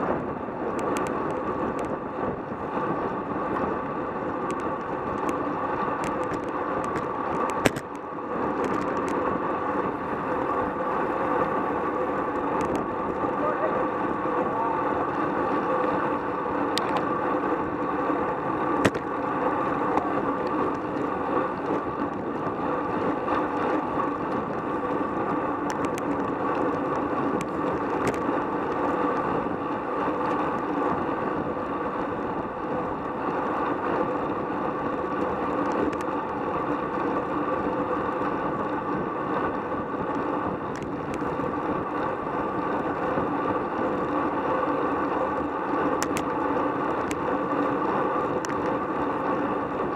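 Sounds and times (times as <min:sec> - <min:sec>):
tyre noise on asphalt: 0:00.0 - 0:49.9.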